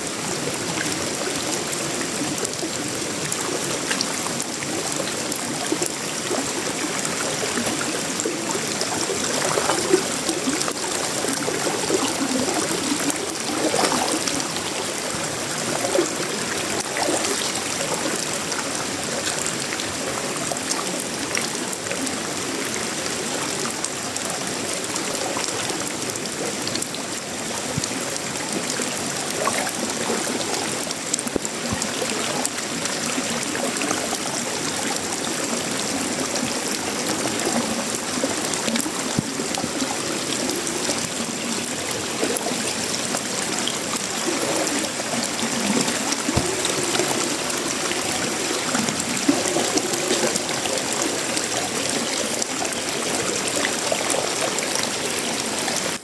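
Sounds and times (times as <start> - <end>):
heavier water splashes: 0.0 - 56.0.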